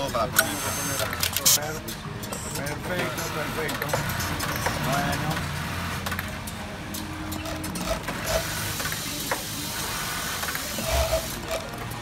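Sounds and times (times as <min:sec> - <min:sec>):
workshop hum: 0:00.0 - 0:12.0.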